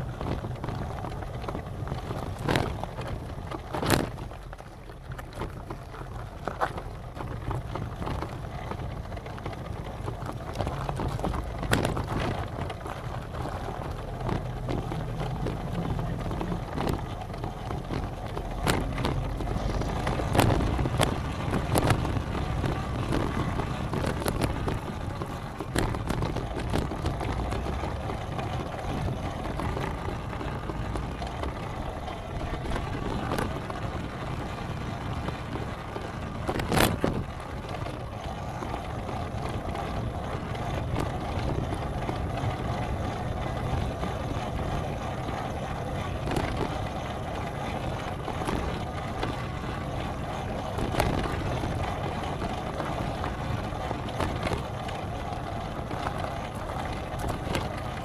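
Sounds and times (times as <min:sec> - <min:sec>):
moving vehicle rumbling: 0:00.0 - 0:58.0.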